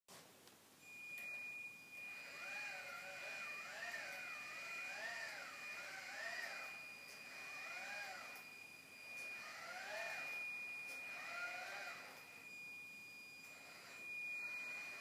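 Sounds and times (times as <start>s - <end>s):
motorised toy whine: 1.2s - 15.0s.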